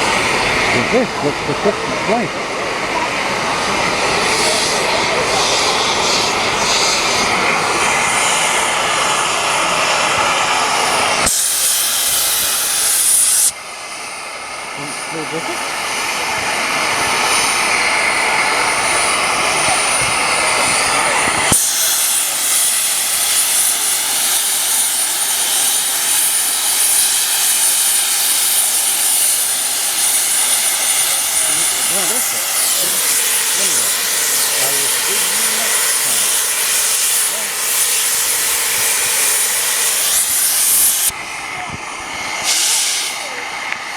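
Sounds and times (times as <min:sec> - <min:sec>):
steam engine hissing: 0:00.0 - 0:43.9.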